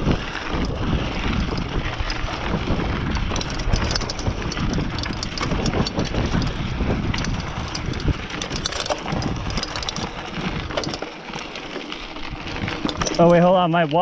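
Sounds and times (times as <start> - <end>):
wind buffeting microphone: 0.0 - 11.0, 12.0 - 13.6
bike rattling over bumps: 0.0 - 14.0
tyres rumbling over dirt and rock: 0.0 - 14.0.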